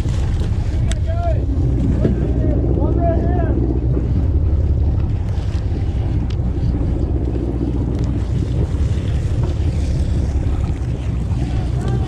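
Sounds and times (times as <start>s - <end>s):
boat engine rumbling: 0.0s - 12.0s
wind buffeting microphone: 0.0s - 12.0s.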